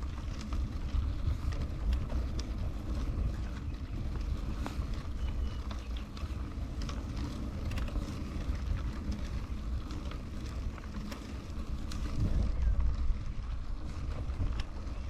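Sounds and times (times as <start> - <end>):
bicycle rolling over gravel: 0.0 - 15.0
small clicks and crunches: 0.0 - 15.0
wind on microphone: 0.0 - 15.0.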